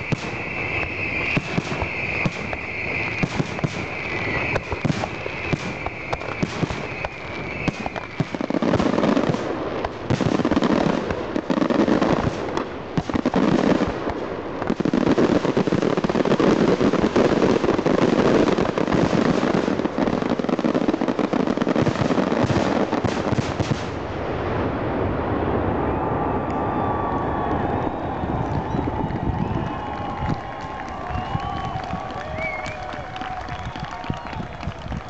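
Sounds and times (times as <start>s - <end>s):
fireworks bursting and crackling: 0.0s - 35.0s.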